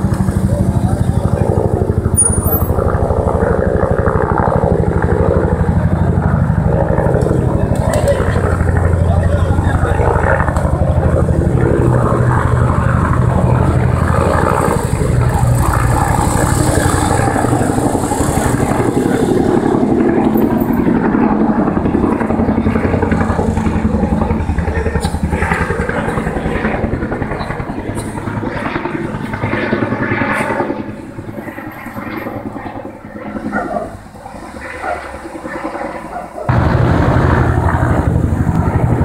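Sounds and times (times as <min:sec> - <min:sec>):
helicopter rotor thumping: 0:00.0 - 0:32.7, 0:36.1 - 0:39.0
turbine whine: 0:00.0 - 0:39.0.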